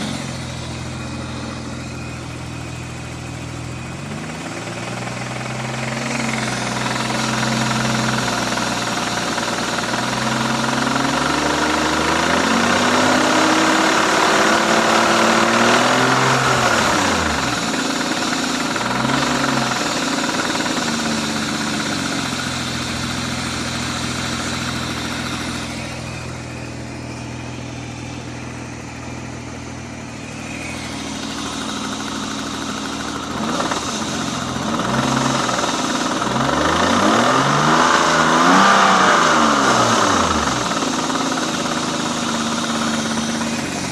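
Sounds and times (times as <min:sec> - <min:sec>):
car engine idling and revving: 0:00.0 - 0:43.9
engine knocking: 0:00.0 - 0:43.9.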